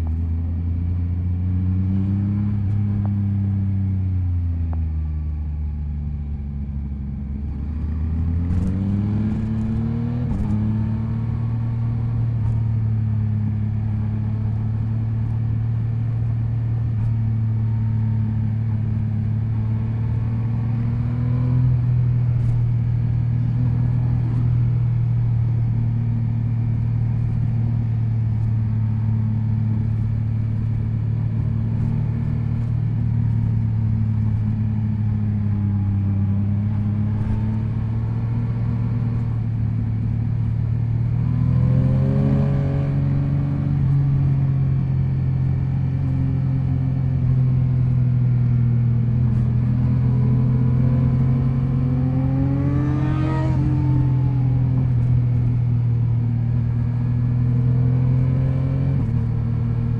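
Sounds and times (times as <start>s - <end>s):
motorcycle engine while riding: 0.0s - 59.9s.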